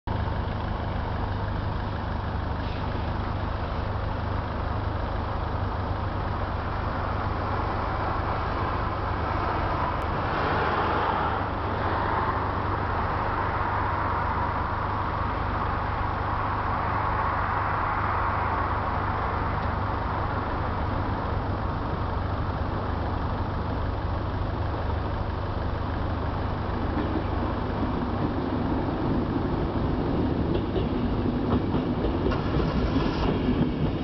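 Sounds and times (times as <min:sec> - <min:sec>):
car engines idling: 0:00.1 - 0:33.9.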